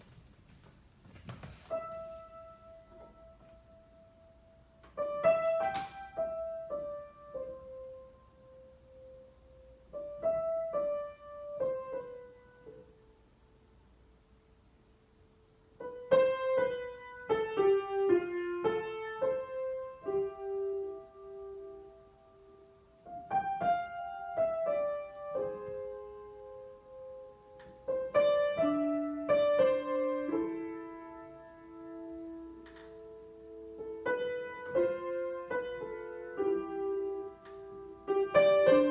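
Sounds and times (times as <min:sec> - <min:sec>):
solo piano improvisation: 0:01.1 - 0:38.9.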